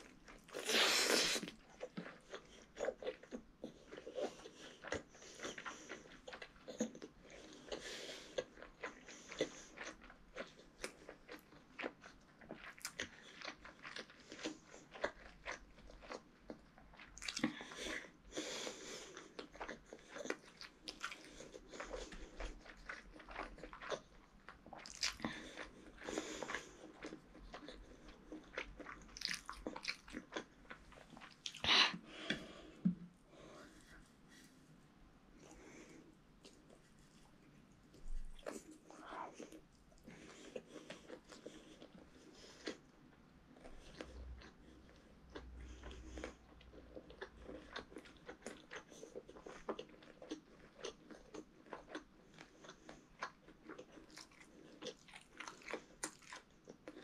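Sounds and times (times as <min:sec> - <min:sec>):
wet chewing and mouth smacks: 0:00.0 - 0:34.6, 0:35.4 - 0:57.0.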